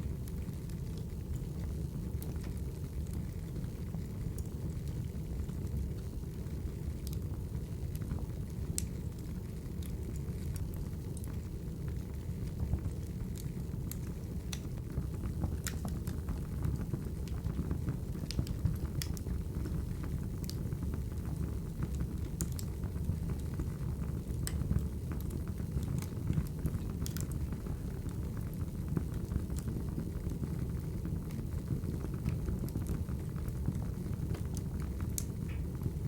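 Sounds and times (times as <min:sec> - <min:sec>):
low fire rumble: 0:00.0 - 0:36.0
wood fire crackling and popping: 0:00.0 - 0:36.0.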